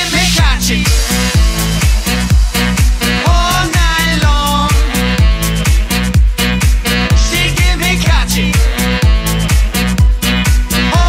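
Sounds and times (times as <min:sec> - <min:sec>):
kick drum beat: 0:00.4 - 0:11.0.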